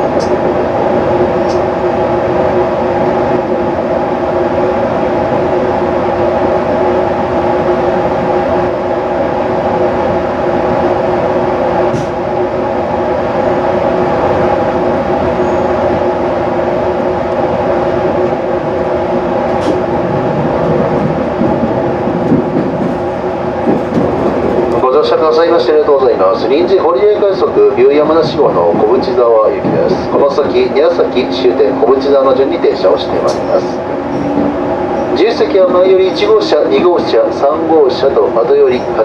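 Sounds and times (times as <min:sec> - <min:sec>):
train running rumble: 0:00.0 - 0:39.0.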